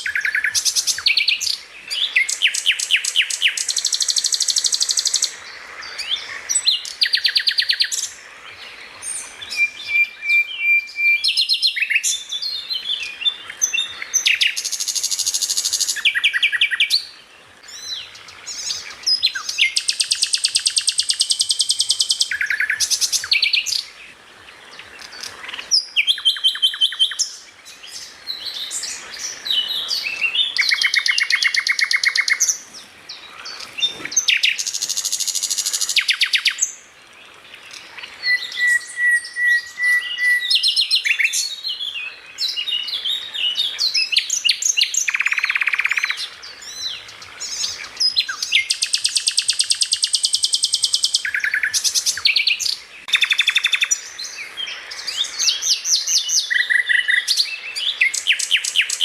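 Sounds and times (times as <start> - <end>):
songbird song with chirps and trills: 0.0 - 59.0.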